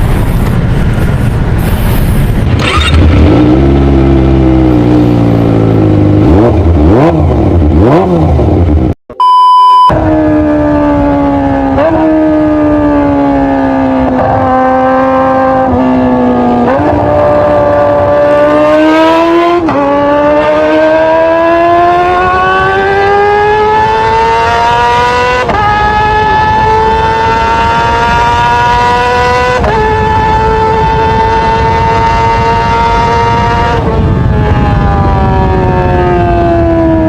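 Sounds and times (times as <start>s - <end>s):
motorcycle engine revving high: 0.0s - 9.0s, 9.9s - 37.0s.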